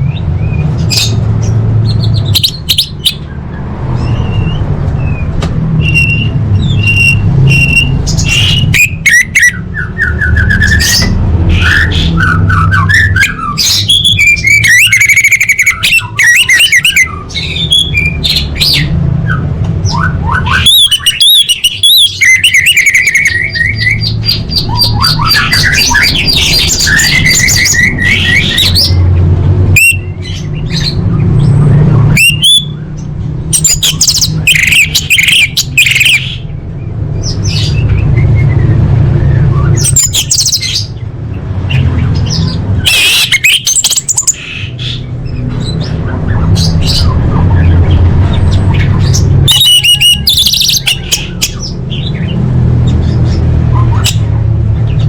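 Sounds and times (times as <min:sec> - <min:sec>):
thrush singing whistles and trills: 0:00.0 - 0:55.0.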